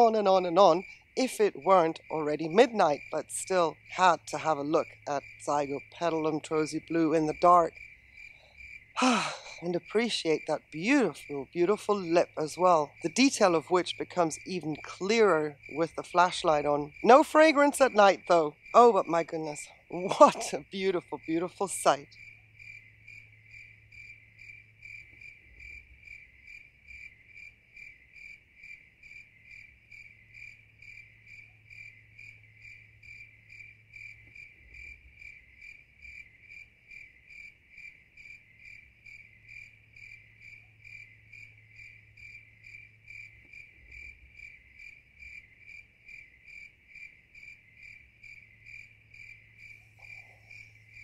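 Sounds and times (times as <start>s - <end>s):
cricket chirping: 0.0s - 51.0s.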